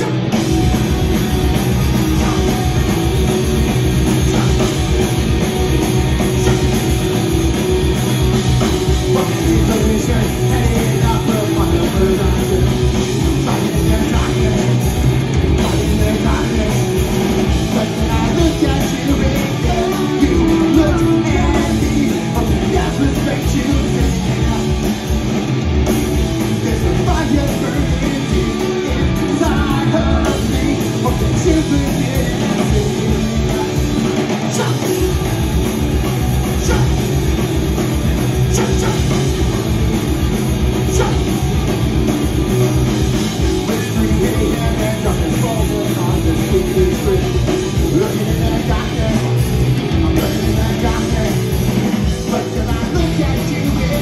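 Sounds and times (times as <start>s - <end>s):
bass guitar: 0.0s - 54.0s
electric guitar: 0.0s - 54.0s.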